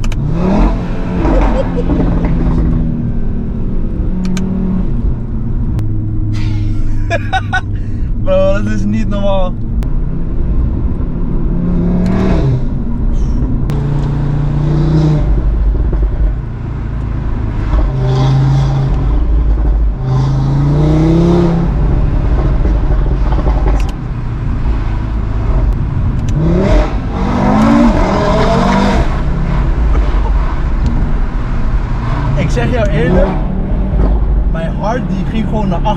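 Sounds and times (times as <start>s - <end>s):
car engine accelerating hard: 0.0s - 9.2s, 9.8s - 35.9s.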